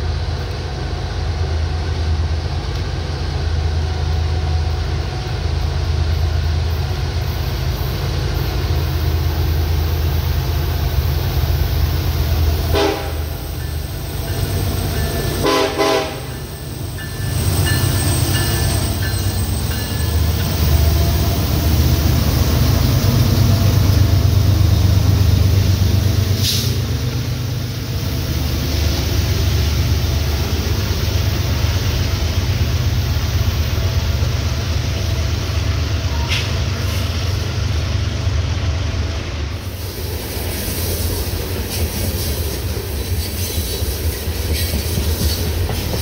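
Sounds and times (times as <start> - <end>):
locomotive engine drone: 0.0 - 46.0
sharp noises from train: 0.0 - 46.0.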